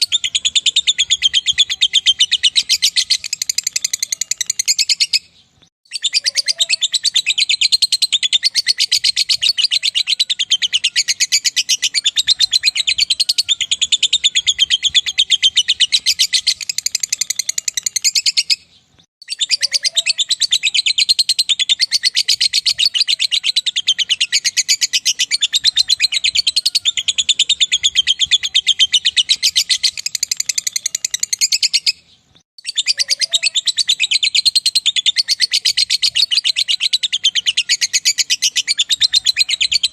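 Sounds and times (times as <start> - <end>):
lovebird chattering: 0.0 - 5.3, 5.9 - 18.6, 19.2 - 32.0, 32.6 - 39.9.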